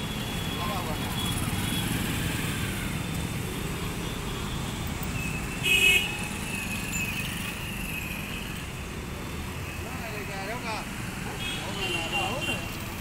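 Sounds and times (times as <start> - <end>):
motorcycles passing: 0.0 - 13.0
road traffic: 0.0 - 13.0.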